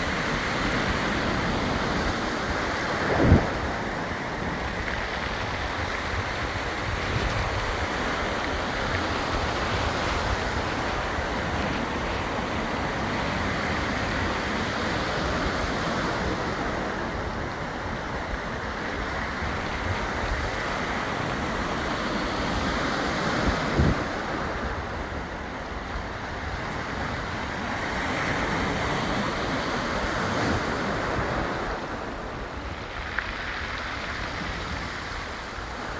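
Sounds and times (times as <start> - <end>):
surf washing over pebbles: 0.0 - 35.9
wind: 0.0 - 35.9.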